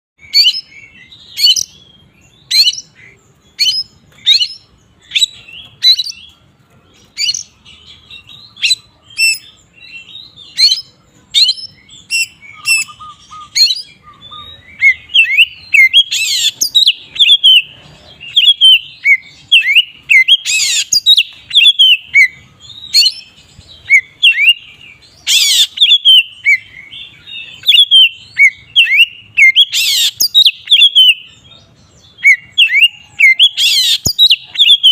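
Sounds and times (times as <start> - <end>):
songbird singing whistles: 0.2 - 6.4, 7.0 - 34.9.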